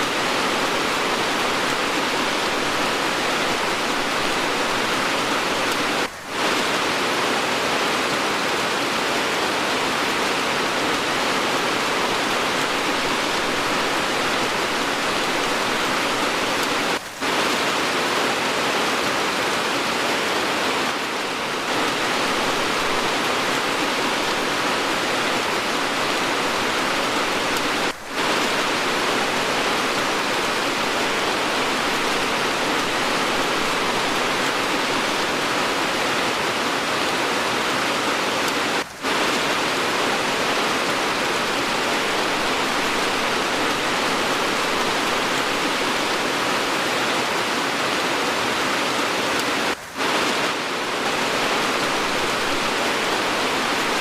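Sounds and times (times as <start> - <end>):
heavy rain hiss: 0.0 - 54.0.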